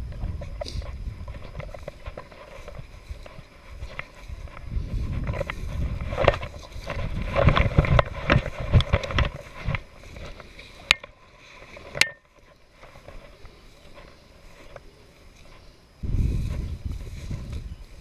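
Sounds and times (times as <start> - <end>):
branches rustling against clothing: 0.0 - 18.0
footsteps crunching through dry grass: 0.0 - 18.0.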